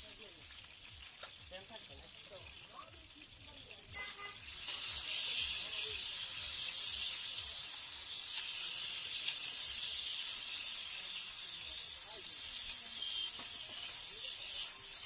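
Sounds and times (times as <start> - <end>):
chicken sizzling in hot oil: 0.0 - 15.0
metal spatulas on griddle: 0.0 - 15.0.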